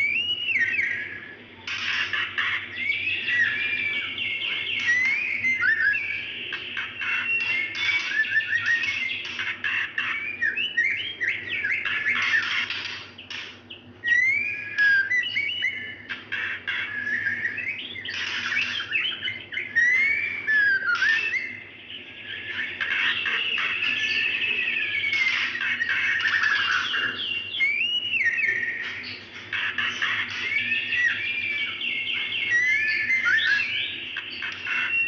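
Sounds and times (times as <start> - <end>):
bird whistling call: 0.0 - 1.4, 2.0 - 12.7, 14.0 - 35.0.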